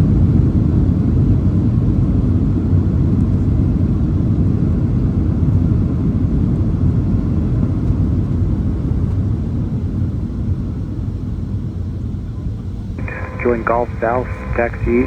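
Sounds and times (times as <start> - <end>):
jet engines and wheels rumbling: 0.0 - 15.0.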